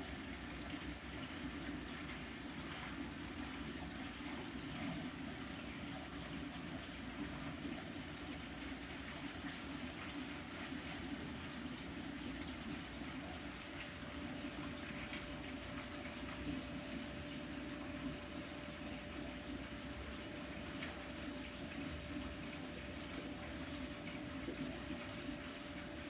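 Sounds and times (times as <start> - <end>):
water trickling into tank: 0.0 - 26.0.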